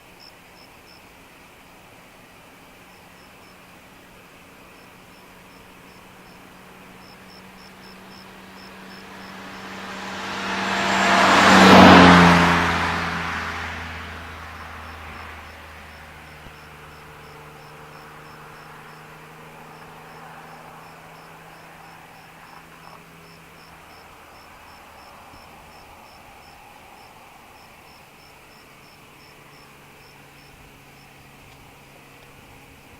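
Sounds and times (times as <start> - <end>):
crickets chirping: 0.0 - 32.9
car passing by: 5.3 - 32.9.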